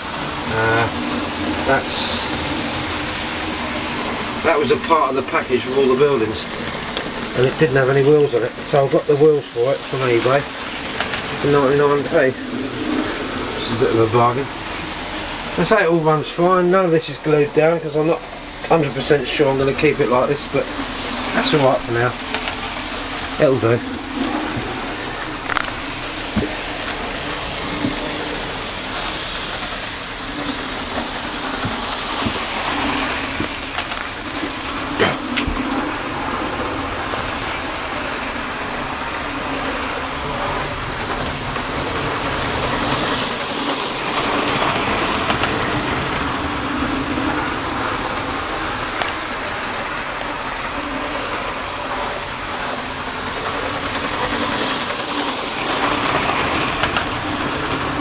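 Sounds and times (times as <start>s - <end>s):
model train whirring rattle: 0.0s - 58.0s.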